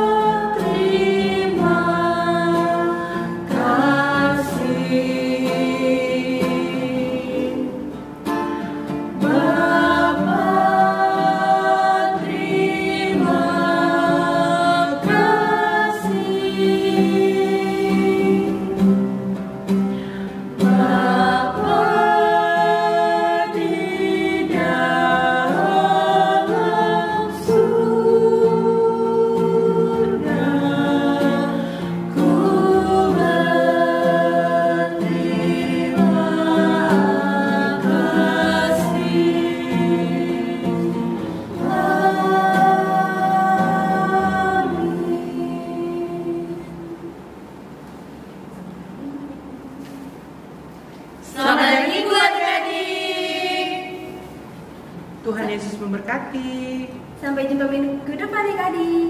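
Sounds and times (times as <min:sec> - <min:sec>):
women singing together: 0:00.0 - 0:19.4, 0:20.3 - 0:47.4, 0:49.0 - 0:54.6.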